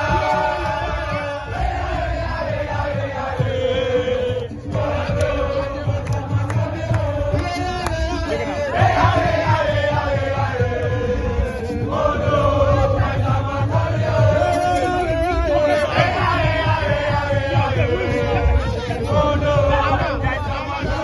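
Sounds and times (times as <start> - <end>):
crowd chanting and singing: 0.0 - 21.0
music: 0.0 - 21.0.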